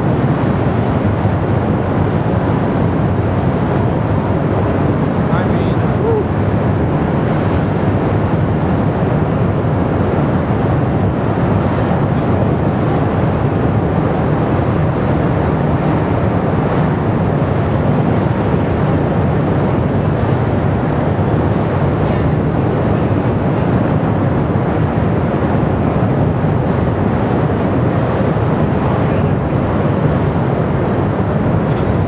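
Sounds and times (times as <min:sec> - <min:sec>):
steam venting with loud rumble: 0:00.0 - 0:32.0.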